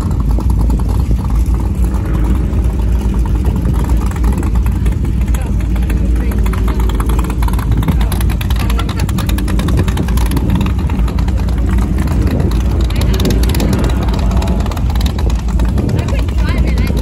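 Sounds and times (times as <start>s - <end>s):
loud low engine rumble: 0.0s - 17.0s.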